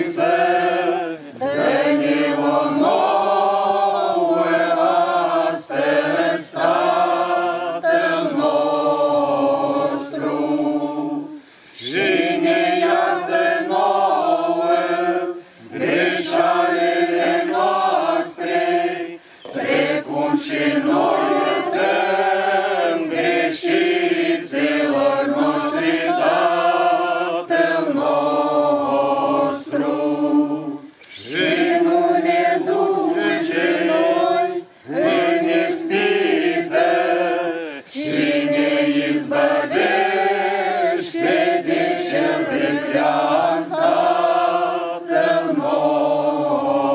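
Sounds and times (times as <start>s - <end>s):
choir singing unaccompanied: 0.0s - 46.9s.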